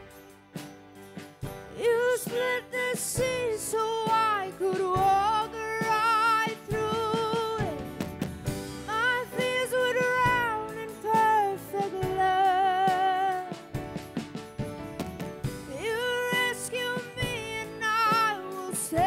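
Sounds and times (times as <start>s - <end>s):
worship band playing: 0.0s - 19.0s.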